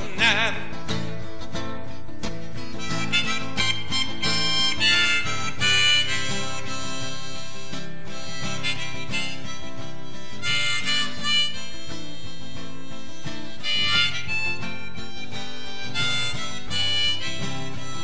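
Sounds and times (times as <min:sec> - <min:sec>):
guitar accompaniment: 0:00.0 - 0:18.0
harmonica melody: 0:00.0 - 0:18.0.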